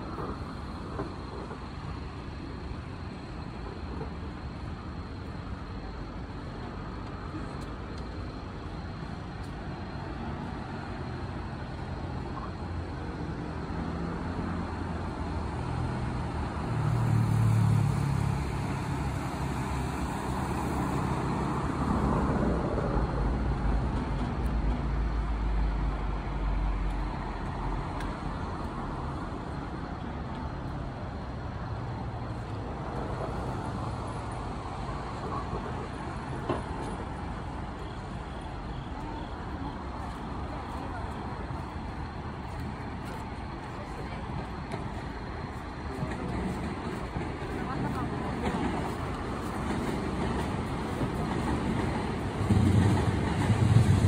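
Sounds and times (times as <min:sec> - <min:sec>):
deep train rumble: 0:00.0 - 0:54.0
electric train hum: 0:00.0 - 0:54.0.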